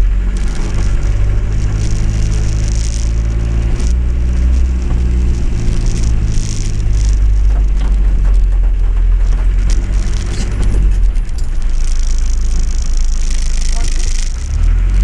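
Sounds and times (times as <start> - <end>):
car engine running: 0.0 - 15.0
rain pattering on roof: 0.0 - 15.0.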